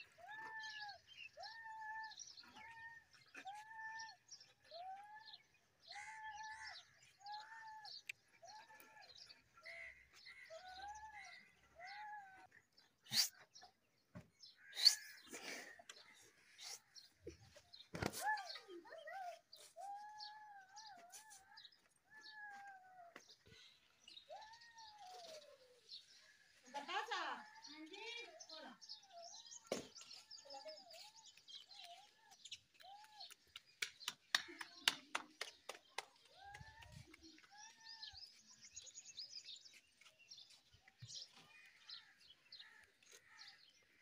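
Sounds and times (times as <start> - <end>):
small birds twittering: 0.0 - 44.0.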